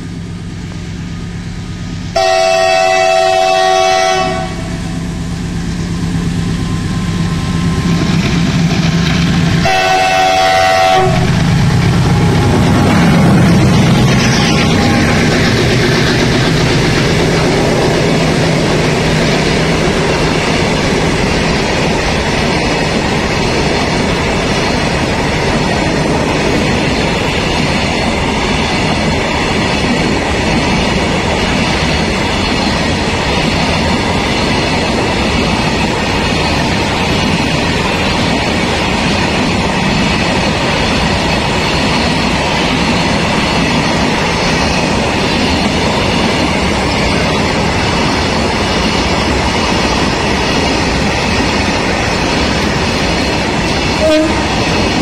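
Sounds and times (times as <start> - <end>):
diesel locomotive engine: 0.0 - 55.0
train wheels rumbling on rail: 0.0 - 55.0.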